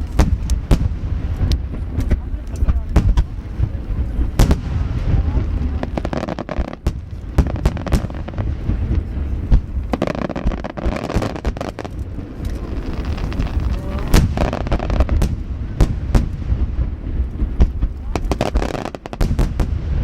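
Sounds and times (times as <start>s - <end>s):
continuous low rumble: 0.0s - 20.0s
firework shells bursting: 0.0s - 20.0s.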